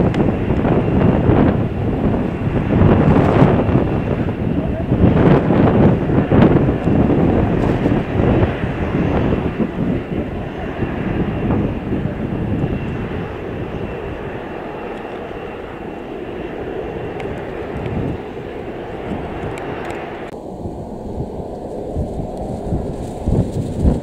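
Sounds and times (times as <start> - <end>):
high engine whine: 0.0 - 24.0
jet airliner engines rumbling: 0.0 - 24.0.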